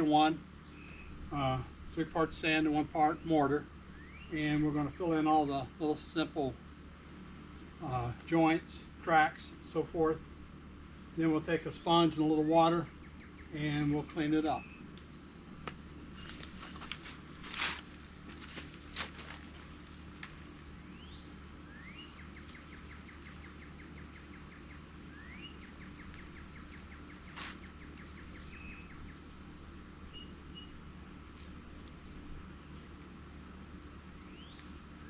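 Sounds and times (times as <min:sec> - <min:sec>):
songbirds singing: 0:00.0 - 0:17.5, 0:18.1 - 0:35.0.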